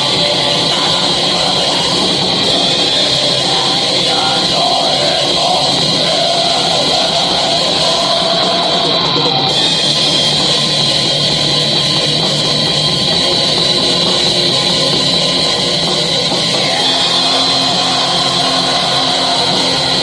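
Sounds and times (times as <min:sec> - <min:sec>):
distorted heavy metal guitar: 0:00.0 - 0:20.0.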